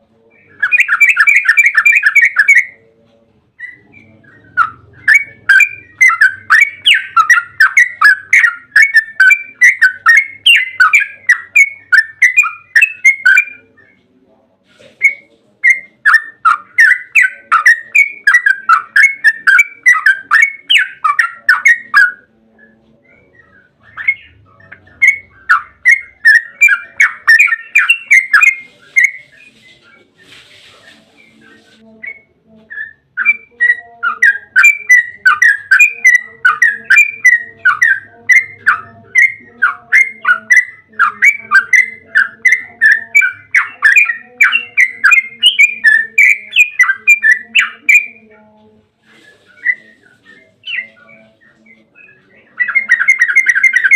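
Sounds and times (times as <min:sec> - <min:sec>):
bird chattering song: 0:00.3 - 0:02.9, 0:03.6 - 0:14.1, 0:14.9 - 0:53.9.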